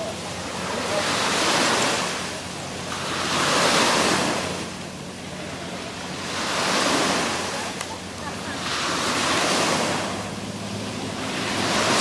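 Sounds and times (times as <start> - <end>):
small sea waves washing: 0.0 - 12.0.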